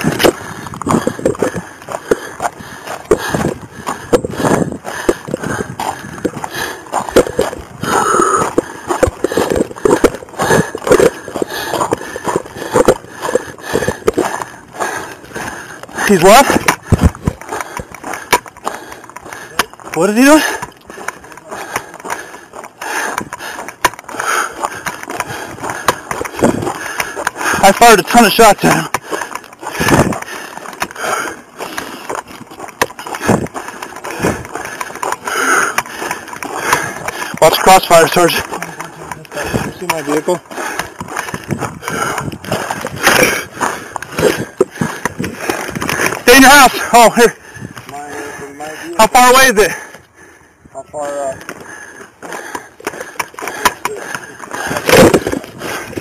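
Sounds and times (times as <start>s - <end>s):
body camera rubbing: 0.0s - 48.4s, 51.0s - 56.0s
gear and rifle rattling: 0.0s - 50.5s, 51.1s - 56.0s
hurried footsteps on gravel: 0.0s - 56.0s.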